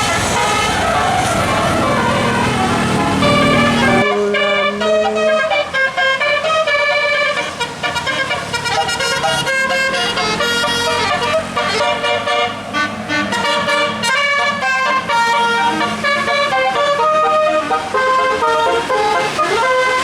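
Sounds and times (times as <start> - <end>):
bus multi-tone horn melody: 0.0 - 20.0.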